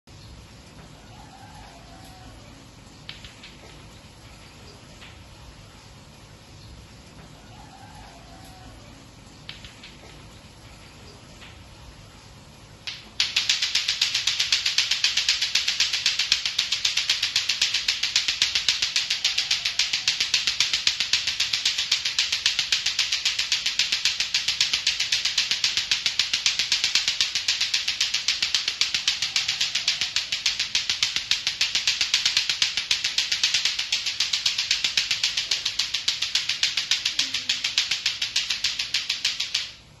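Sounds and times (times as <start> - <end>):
clacker balls clacking: 1.6 - 5.2, 8.1 - 11.6, 12.8 - 39.9.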